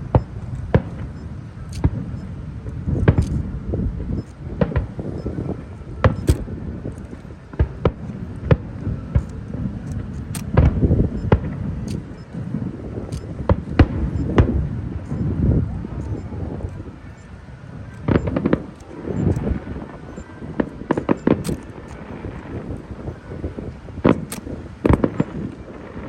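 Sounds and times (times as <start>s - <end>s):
continuous low rumble: 0.0s - 26.0s
fireworks bangs: 0.0s - 26.0s.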